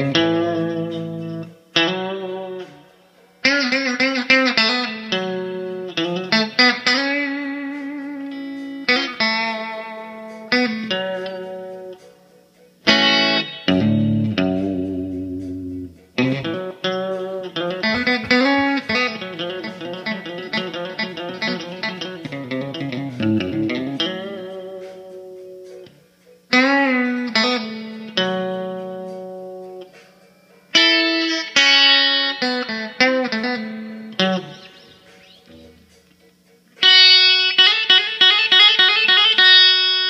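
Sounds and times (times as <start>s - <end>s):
electric guitar chords and runs: 0.0s - 40.0s.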